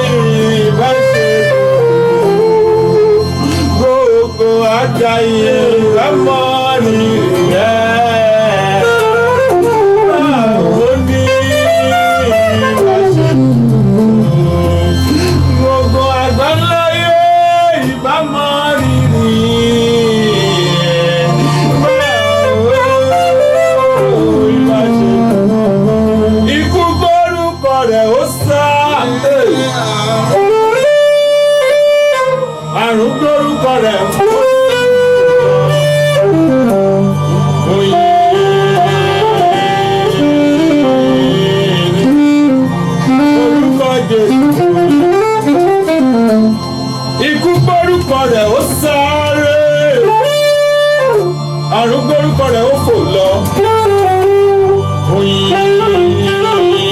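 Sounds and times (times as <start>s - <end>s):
gliding melodic lead line: 0.0s - 56.9s
steady bass: 0.0s - 56.9s.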